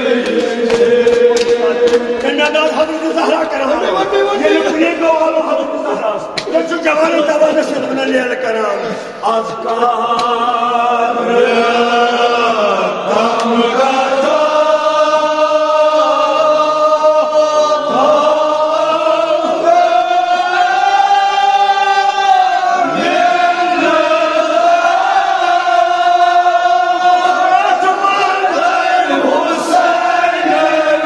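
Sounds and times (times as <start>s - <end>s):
men chanting together: 0.0s - 31.0s.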